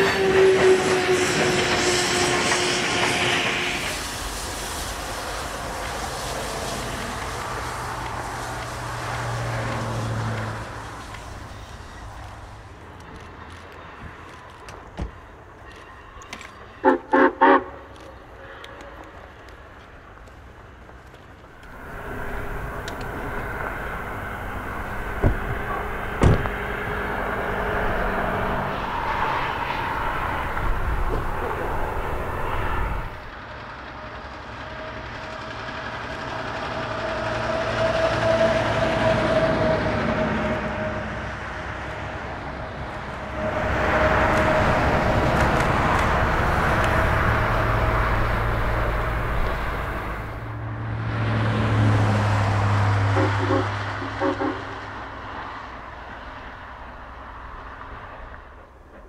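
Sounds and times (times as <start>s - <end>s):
steam locomotive working: 0.0s - 50.7s, 51.4s - 59.0s
train rolling on rails: 0.0s - 59.0s.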